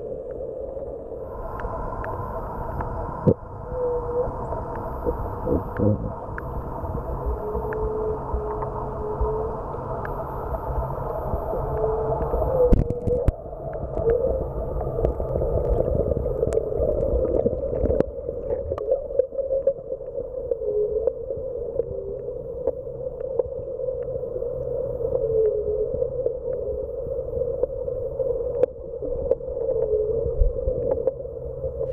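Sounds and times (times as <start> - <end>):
underwater boat motor drone: 0.0 - 31.9.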